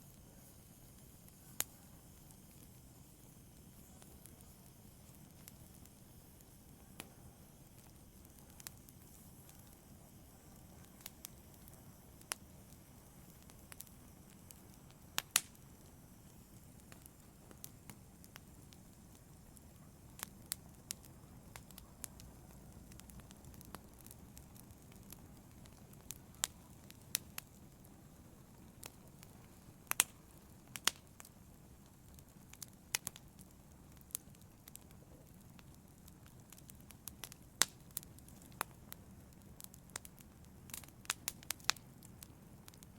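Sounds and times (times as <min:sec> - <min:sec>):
wood fire crackling: 0:00.0 - 0:42.9
pops and snaps of fire: 0:00.1 - 0:42.9.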